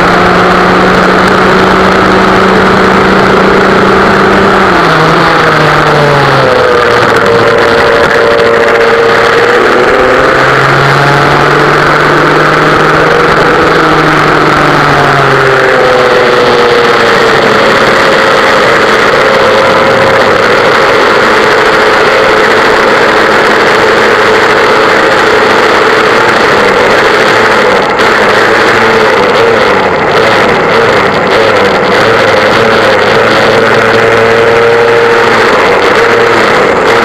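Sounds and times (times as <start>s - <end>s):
kart engine running hard: 0.0s - 37.0s.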